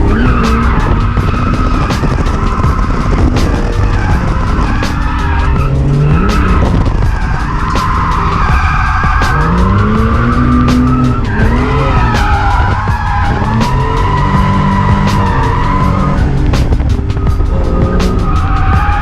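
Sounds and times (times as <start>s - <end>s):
car engine revving: 0.0s - 19.0s
sharp exhaust pops: 0.0s - 19.0s
tyres squealing: 0.0s - 19.0s.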